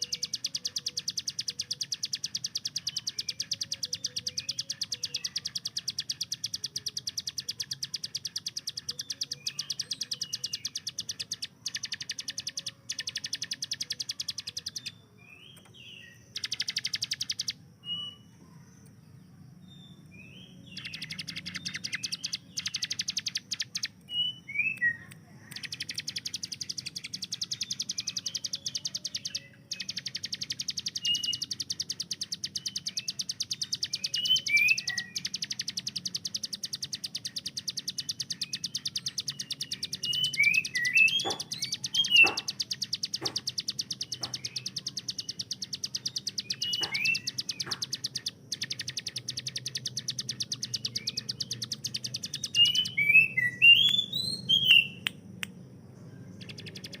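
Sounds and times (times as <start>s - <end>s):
whistled bird chirps: 0.0s - 18.9s, 19.6s - 55.2s, 56.3s - 57.0s.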